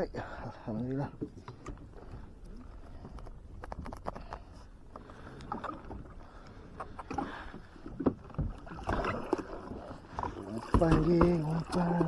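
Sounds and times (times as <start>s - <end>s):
water against kayak hull: 0.1s - 12.0s.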